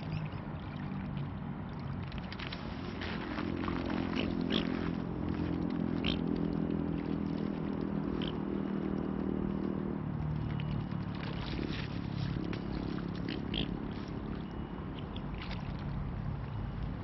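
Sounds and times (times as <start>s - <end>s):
low motor hum: 0.0s - 17.0s
swans dabbling among wet pebbles: 0.0s - 17.0s.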